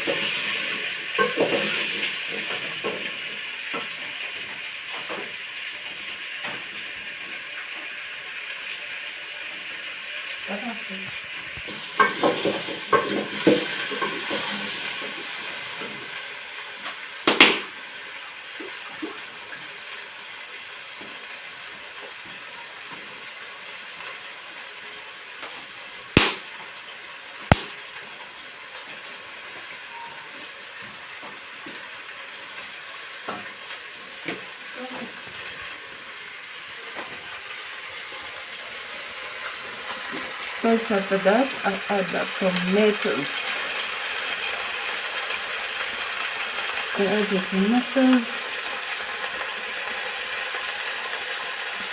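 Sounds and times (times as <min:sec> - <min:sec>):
food sizzling in a pan: 0:00.0 - 0:51.9.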